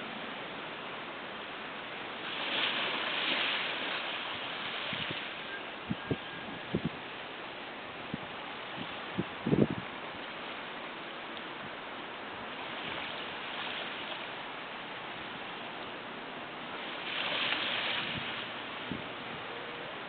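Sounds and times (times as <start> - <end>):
small waves washing on shore: 0.0 - 6.0, 6.8 - 19.4.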